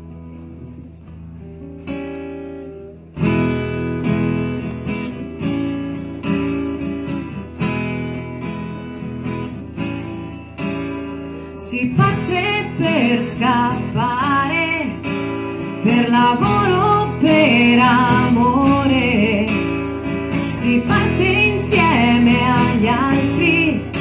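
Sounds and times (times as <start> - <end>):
acoustic guitar chords strummed: 0.0 - 24.0.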